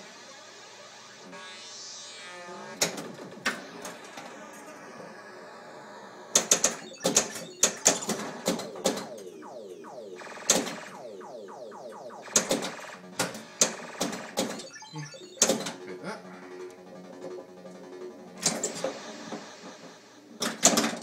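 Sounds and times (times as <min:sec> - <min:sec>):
falling-pitch electronic sweeps: 0:00.0 - 0:20.2
electronic game sound effects: 0:00.0 - 0:21.0.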